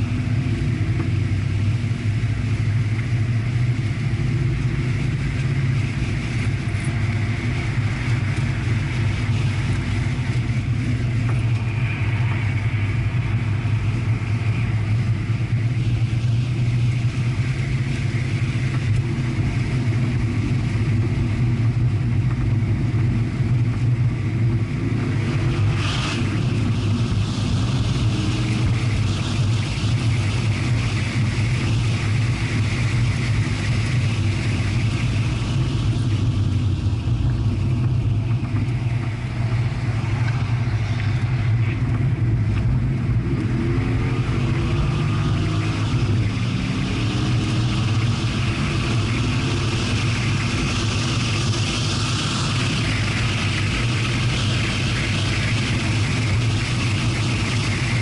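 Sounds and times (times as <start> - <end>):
car engine and road noise drone: 0.0 - 58.0.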